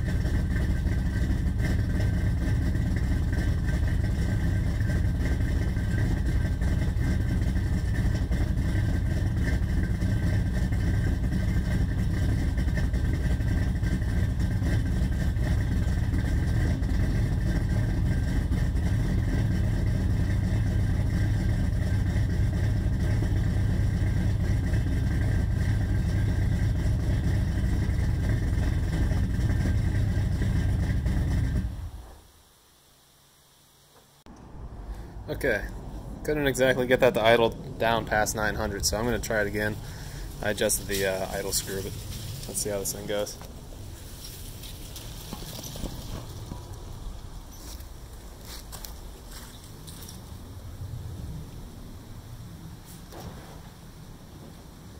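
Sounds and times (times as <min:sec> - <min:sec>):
engine idling high: 0:00.0 - 0:32.3, 0:34.3 - 0:54.9.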